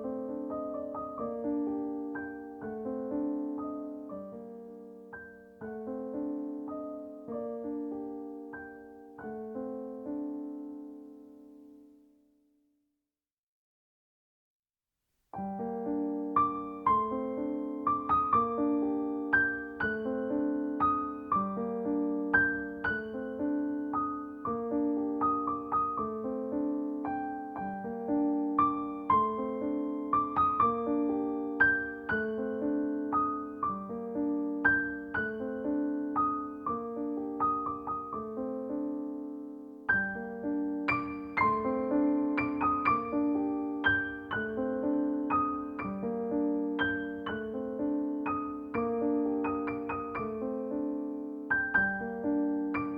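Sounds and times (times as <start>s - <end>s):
gentle piano melody: 0.0s - 12.2s, 15.4s - 52.9s.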